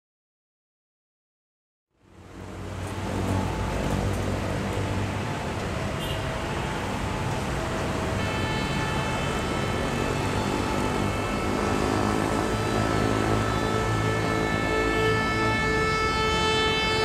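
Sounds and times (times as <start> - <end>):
outdoor noise: 1.9 - 17.0.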